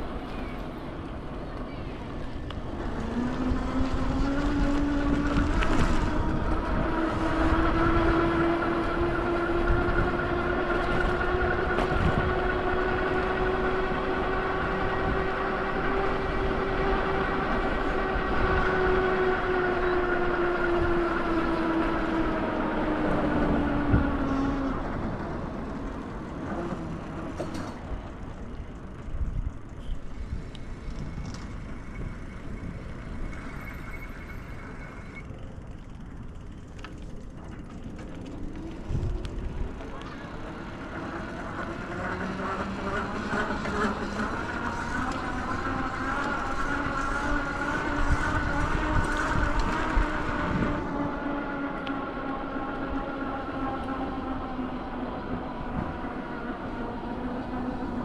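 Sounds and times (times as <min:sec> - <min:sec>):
street noise: 0:00.0 - 0:58.0.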